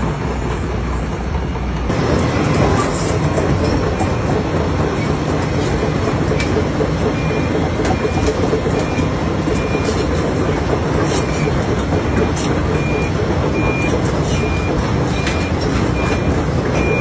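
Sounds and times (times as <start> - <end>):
heavy machinery engines rumbling: 0.0 - 17.0.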